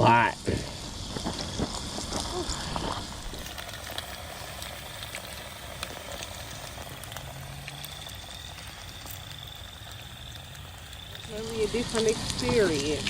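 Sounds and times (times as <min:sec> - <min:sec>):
fish frying in hot oil: 0:00.0 - 0:13.0
oil crackling and popping: 0:00.0 - 0:13.0.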